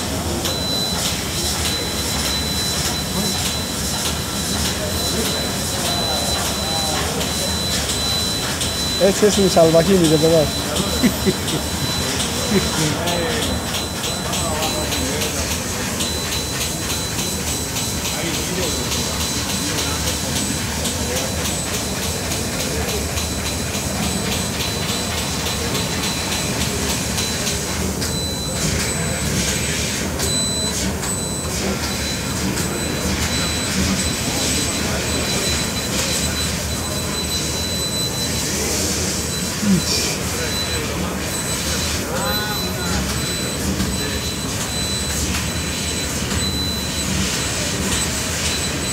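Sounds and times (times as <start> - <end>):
laser cutter hiss and whir: 0.0 - 48.9
short high beeps: 0.4 - 48.9.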